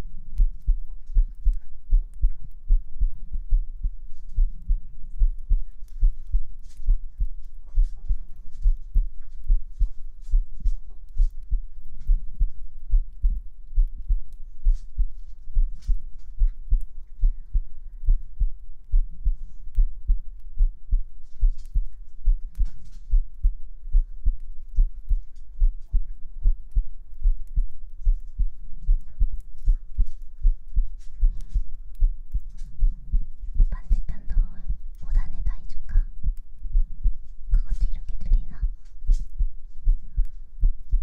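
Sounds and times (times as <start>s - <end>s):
heartbeat thumps: 0.0s - 41.0s.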